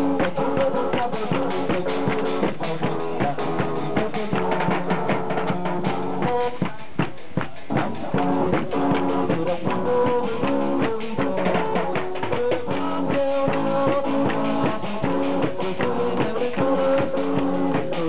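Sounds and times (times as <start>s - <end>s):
held melody line: 0.0s - 6.8s, 7.7s - 18.0s
drum beat: 0.0s - 18.0s.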